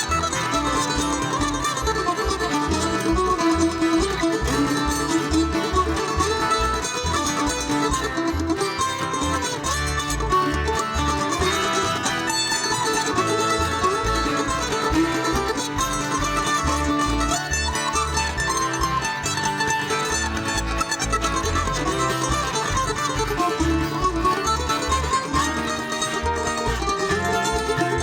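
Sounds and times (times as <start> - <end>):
banjo picking: 0.0 - 28.0
bass line: 0.0 - 28.0
guitar picking: 0.0 - 28.0
mandolin picking: 0.0 - 28.0.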